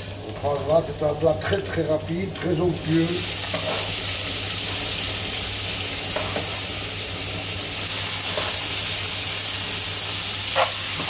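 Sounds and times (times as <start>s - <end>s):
pasta sizzling in a frying pan: 0.0s - 11.0s.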